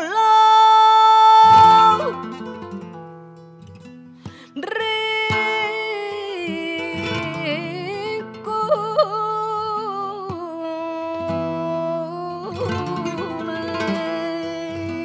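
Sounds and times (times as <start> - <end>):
flamenco guitar: 0.0 - 15.0
woman singing flamenco: 0.0 - 15.0.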